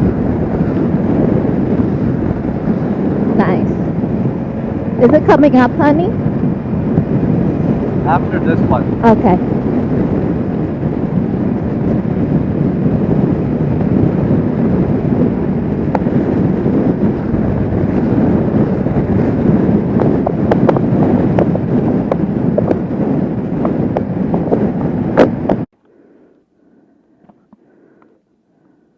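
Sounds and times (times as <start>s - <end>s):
wind rushing over microphone: 0.0s - 26.1s.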